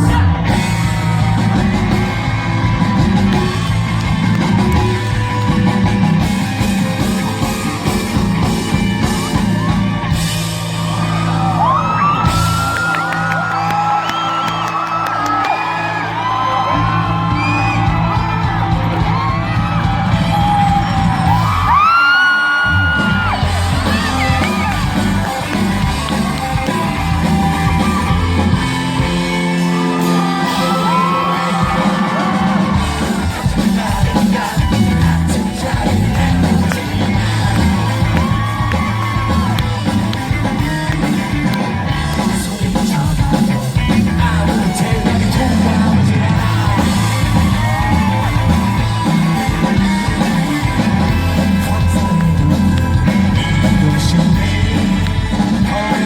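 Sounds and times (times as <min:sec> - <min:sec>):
pop-rock band playing loudly: 0:00.0 - 0:56.0
voices singing and whooping: 0:00.0 - 0:56.0.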